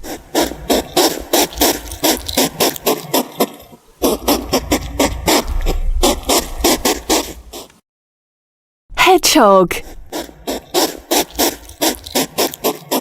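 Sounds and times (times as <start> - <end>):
hedgehog huffing puffs: 0.0 - 7.8, 9.7 - 13.0.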